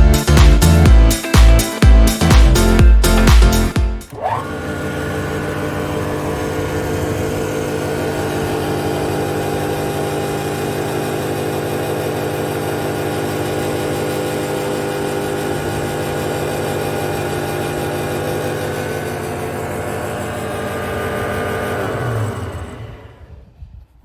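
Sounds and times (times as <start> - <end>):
woodworking machine humming: 4.0 - 23.6.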